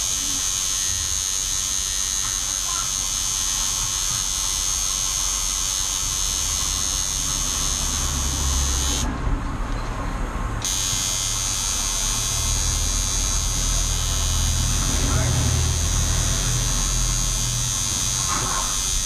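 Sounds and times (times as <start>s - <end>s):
tattoo machine buzzing: 0.0s - 9.2s, 10.6s - 19.0s.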